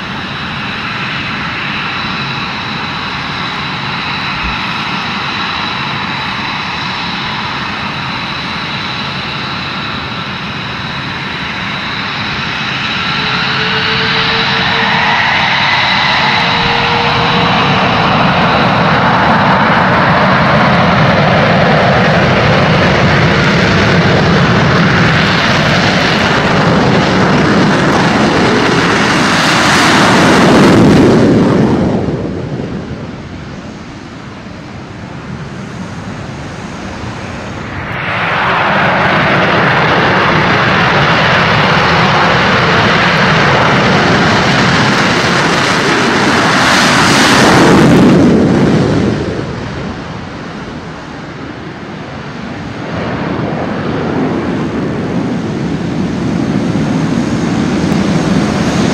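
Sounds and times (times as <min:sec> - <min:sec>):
jet engines roaring: 0:00.0 - 0:58.9.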